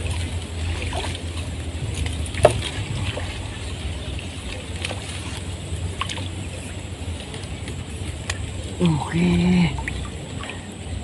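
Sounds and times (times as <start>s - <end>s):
low steady rumble: 0.0s - 11.0s
water sloshing: 0.0s - 11.0s.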